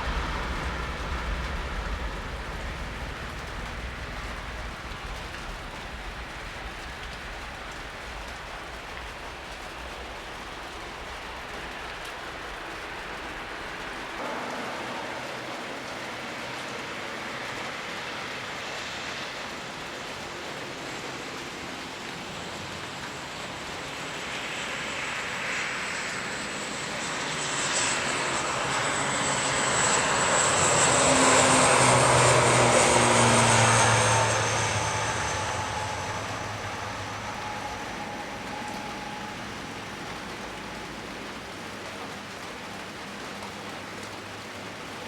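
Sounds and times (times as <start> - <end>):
heavy rain hiss: 0.0 - 45.0
turboprop plane taking off: 0.0 - 45.0.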